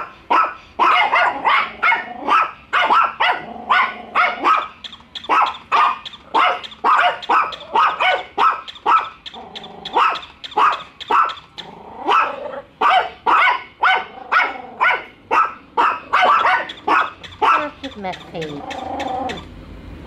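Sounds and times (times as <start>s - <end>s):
small dogs barking: 0.0s - 19.5s.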